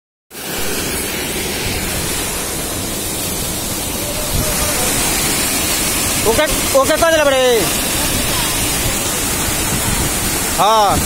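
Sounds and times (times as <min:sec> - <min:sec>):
floodwater rushing: 0:00.3 - 0:11.0.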